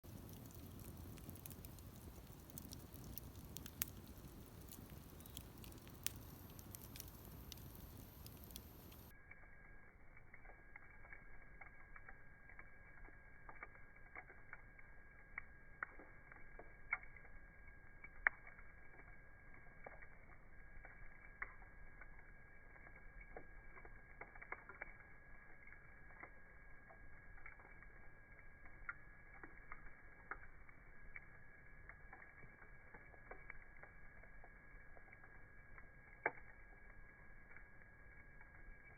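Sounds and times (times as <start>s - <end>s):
fire pops and snaps: 0.0s - 9.1s, 9.9s - 38.9s
wood fire crackling: 0.0s - 38.9s.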